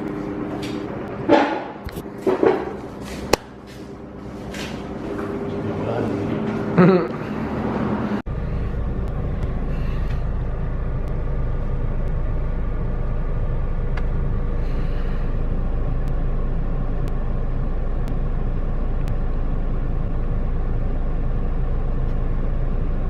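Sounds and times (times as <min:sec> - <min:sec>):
car rumble in motion: 0:00.0 - 0:23.0.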